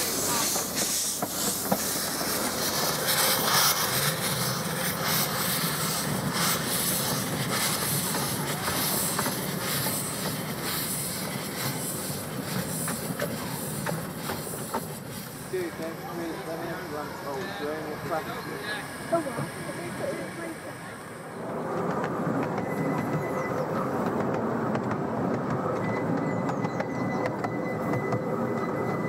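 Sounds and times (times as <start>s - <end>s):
wheels clicking on track: 0.0s - 20.8s, 21.4s - 29.0s
steam hissing: 0.0s - 24.1s.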